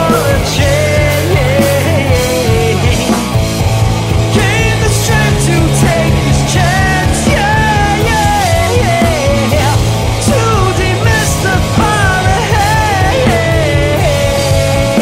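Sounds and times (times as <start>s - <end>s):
man singing: 0.0s - 3.4s, 4.1s - 15.0s
rock band playing: 0.0s - 15.0s.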